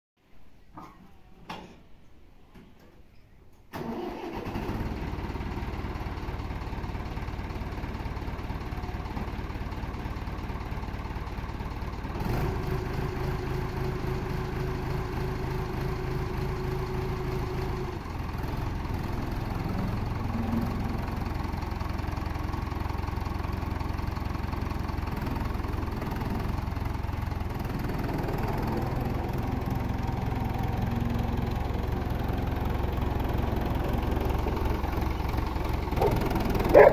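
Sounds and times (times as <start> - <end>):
tractor diesel engine running: 3.8 - 36.9.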